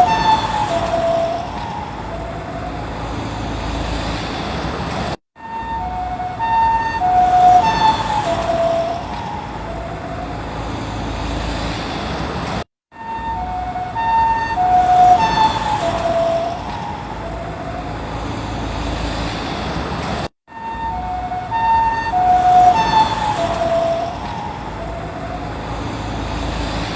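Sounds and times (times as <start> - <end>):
ambulance two-tone siren passing: 0.0 - 4.6, 5.4 - 11.8, 12.9 - 19.3, 20.5 - 26.9
road traffic noise: 0.0 - 26.9.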